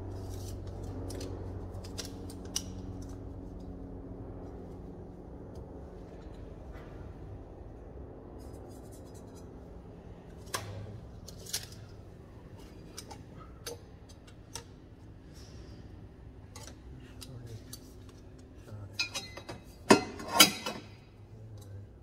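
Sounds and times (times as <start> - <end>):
low workshop hum: 0.0 - 22.0.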